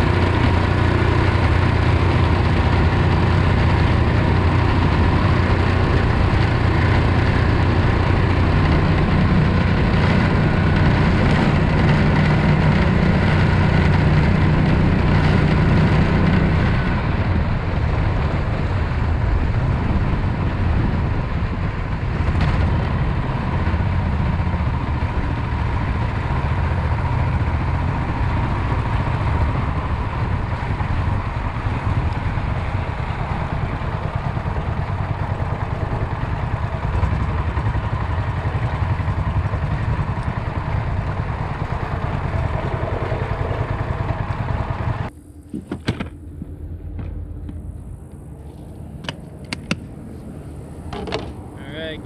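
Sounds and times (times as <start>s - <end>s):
boat motor running: 0.0s - 52.0s.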